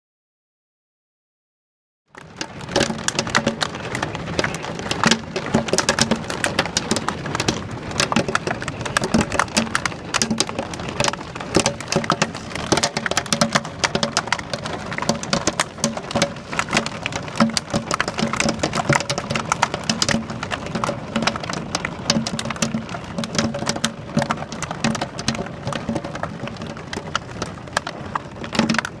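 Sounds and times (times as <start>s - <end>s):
hail and rain on a window: 2.1s - 29.0s.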